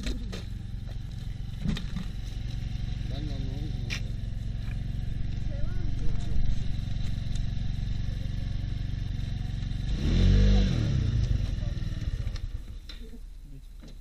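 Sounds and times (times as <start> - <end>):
small engine idling and revving: 0.0 - 14.0.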